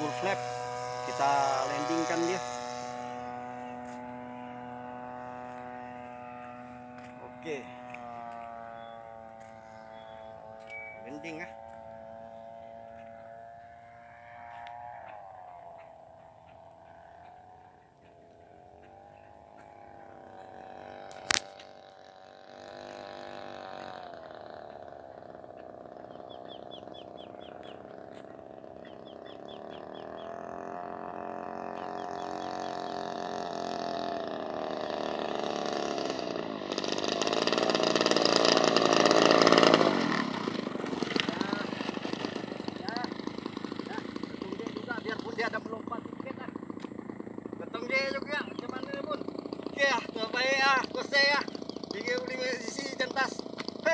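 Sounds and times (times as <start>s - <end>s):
model airplane engine droning: 0.0s - 53.9s.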